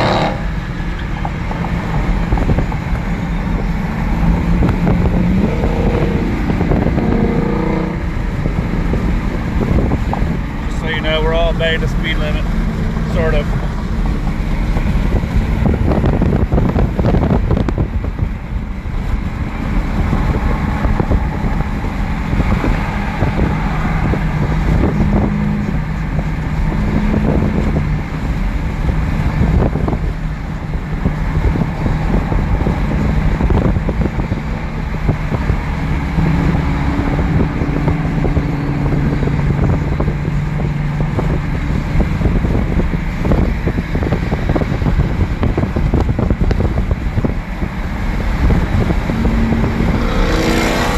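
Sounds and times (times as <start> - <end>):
car engine drone: 0.0 - 50.9
wind rushing over microphone: 0.0 - 50.9.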